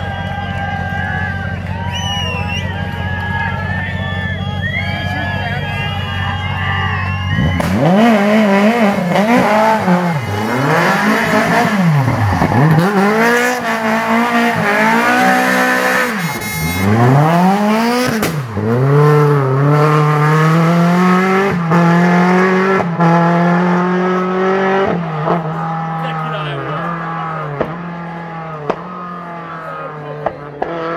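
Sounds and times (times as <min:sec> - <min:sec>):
rally car engine revving: 0:00.0 - 0:30.9.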